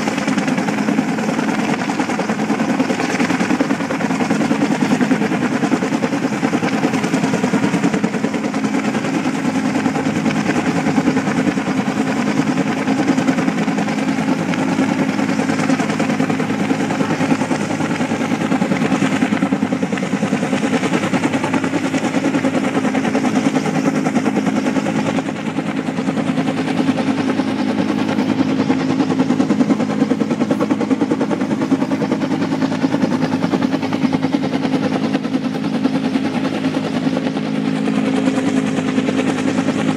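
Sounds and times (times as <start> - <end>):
engine running with pulsing beat: 0.0 - 39.9.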